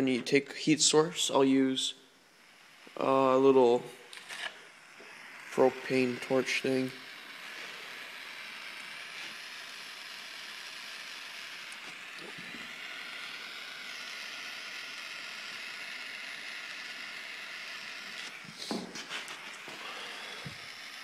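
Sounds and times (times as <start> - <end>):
propane torch hissing: 0.5 - 21.0.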